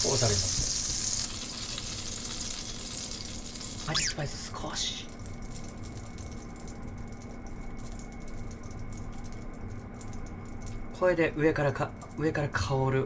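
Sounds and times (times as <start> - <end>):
hot oil crackling in a pan: 0.0 - 12.3.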